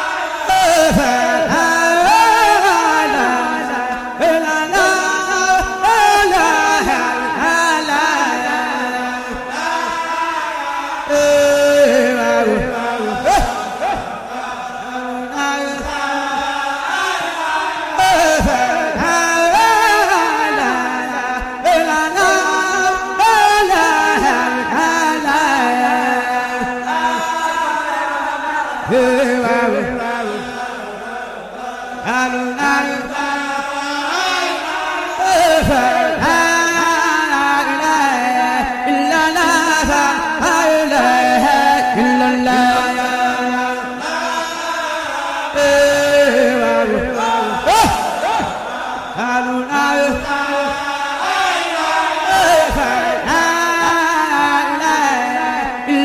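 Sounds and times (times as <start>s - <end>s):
person chanting long held notes: 0.0s - 48.6s.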